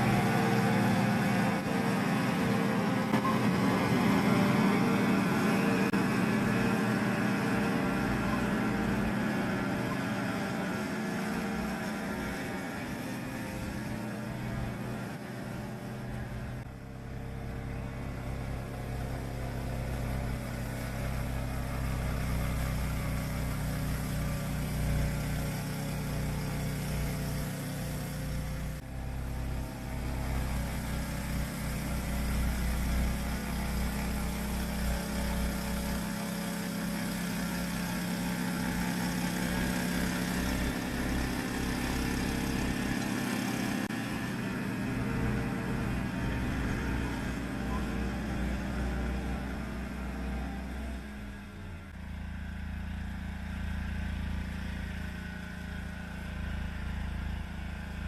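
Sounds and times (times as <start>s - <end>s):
snowblower engine running: 0.0s - 58.0s.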